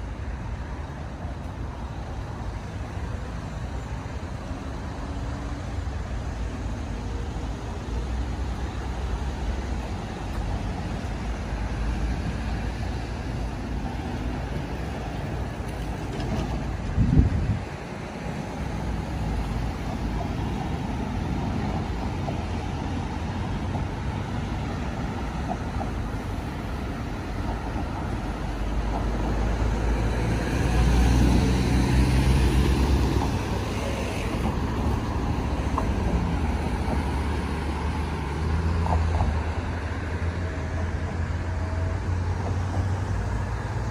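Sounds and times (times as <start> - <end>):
traffic rumble: 0.0 - 43.9
loud vehicle passing: 8.0 - 43.9.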